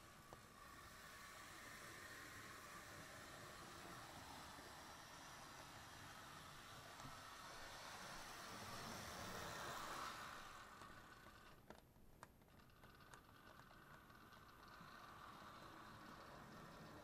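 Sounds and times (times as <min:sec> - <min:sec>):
model train whirring: 0:00.0 - 0:11.8, 0:12.4 - 0:17.0
light clicks of train wheels: 0:00.0 - 0:17.0.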